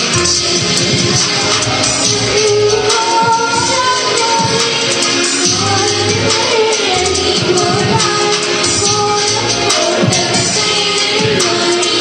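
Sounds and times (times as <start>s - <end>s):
backing music: 0.0s - 12.0s
girl singing into a microphone: 0.0s - 12.0s.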